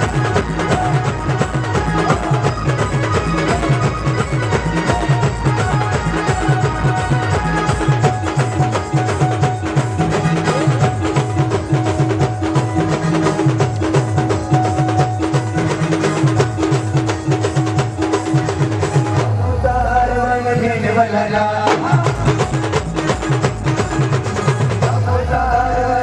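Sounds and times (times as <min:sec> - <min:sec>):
fast drumming: 0:00.0 - 0:19.4, 0:21.6 - 0:25.6
keyboard: 0:00.0 - 0:26.0.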